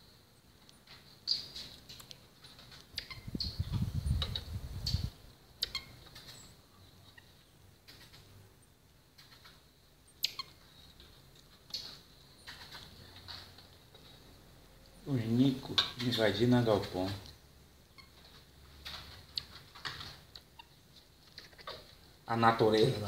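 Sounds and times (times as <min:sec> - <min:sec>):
small animals squeaking: 0:00.8 - 0:08.3, 0:09.2 - 0:14.2, 0:15.6 - 0:22.1.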